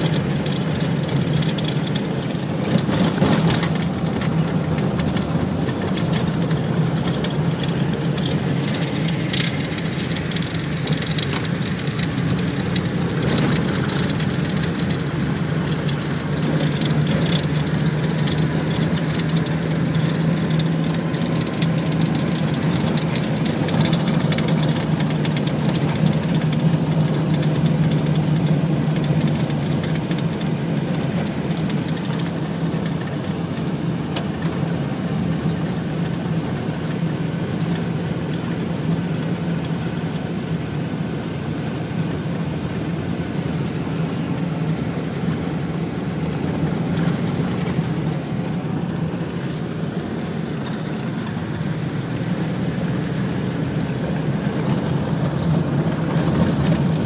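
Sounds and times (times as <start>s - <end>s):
low engine drone: 0.0s - 57.0s
tyre and road noise: 0.0s - 57.0s.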